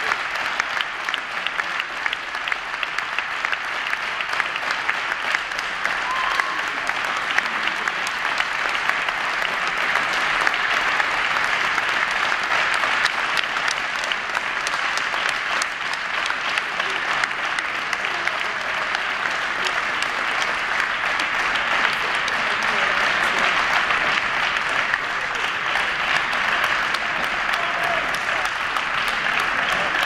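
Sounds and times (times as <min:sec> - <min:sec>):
crowd applauding: 0:00.0 - 0:30.0.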